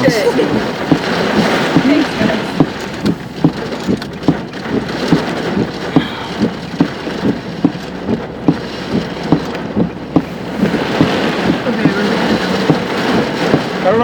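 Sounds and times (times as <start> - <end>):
heavy rain drumming on a vehicle: 0.0 - 14.0.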